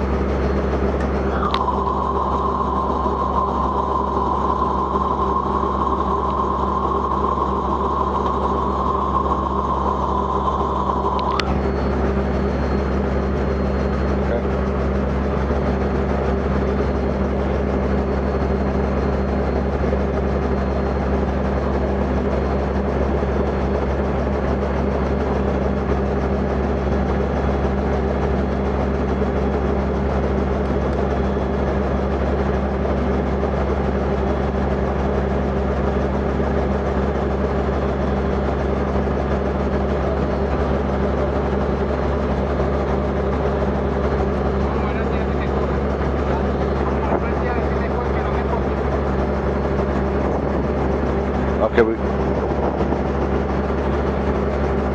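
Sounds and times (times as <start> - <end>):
helicopter engine and rotor running: 0.0 - 54.9.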